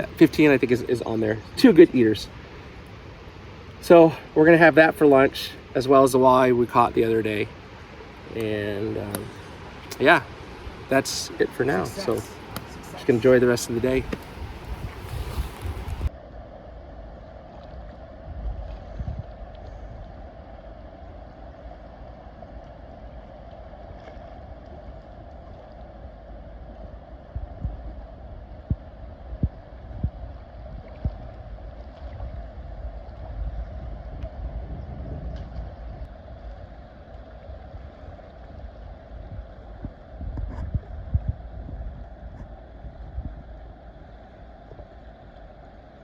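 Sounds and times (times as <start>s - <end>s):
rushing water: 0.0s - 46.0s
wind buffeting microphone: 3.8s - 16.1s, 17.8s - 21.7s, 23.8s - 45.6s.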